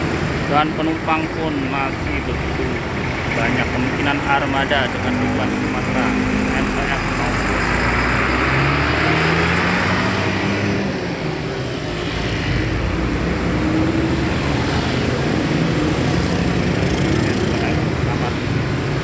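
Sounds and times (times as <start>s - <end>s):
bus diesel engine rumbling: 0.0s - 19.0s
bus terminal noise: 0.0s - 19.0s.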